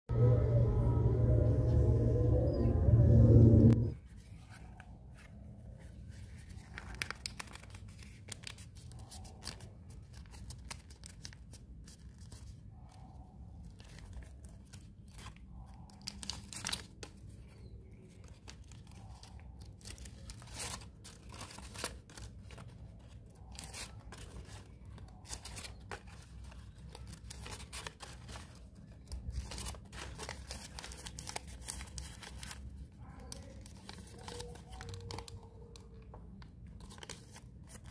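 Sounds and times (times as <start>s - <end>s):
paper crinkling: 3.9s - 37.9s.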